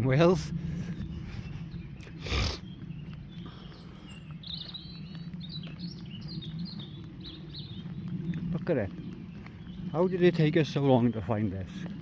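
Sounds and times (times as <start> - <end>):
low background rush: 0.0 - 12.0
small birds chirping: 0.0 - 12.0.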